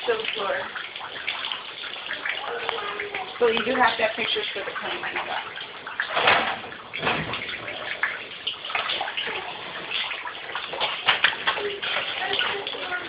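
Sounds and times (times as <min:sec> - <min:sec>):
water pouring through ceiling: 0:00.0 - 0:13.0
water splashing below: 0:00.0 - 0:13.0.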